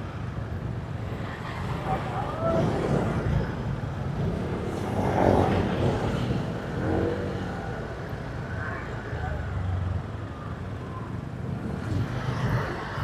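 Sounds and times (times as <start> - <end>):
passing traffic: 0.0 - 13.0
wind and road noise: 0.0 - 13.0.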